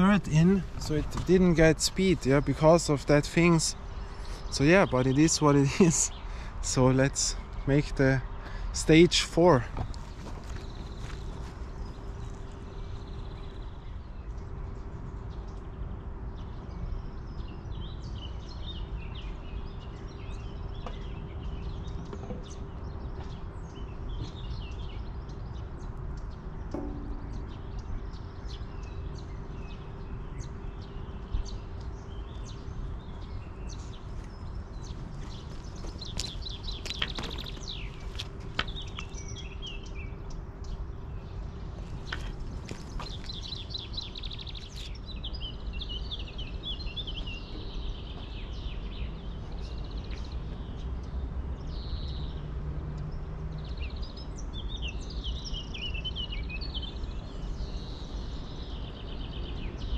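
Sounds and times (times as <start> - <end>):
low outdoor rumble: 0.0 - 55.6
small birds chirping: 0.0 - 59.9.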